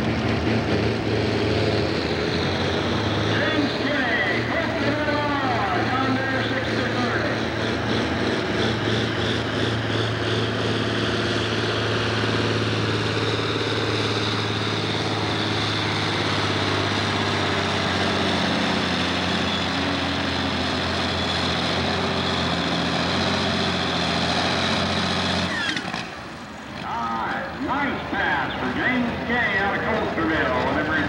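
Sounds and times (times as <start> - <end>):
tractor diesel engine at full throttle: 0.0 - 31.0.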